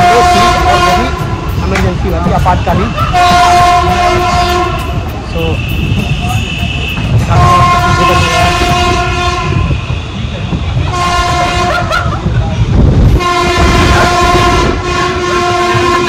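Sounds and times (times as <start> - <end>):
train horn blasts: 0.0 - 1.5, 2.6 - 11.9, 13.1 - 16.0
moving train rumble: 0.0 - 16.0.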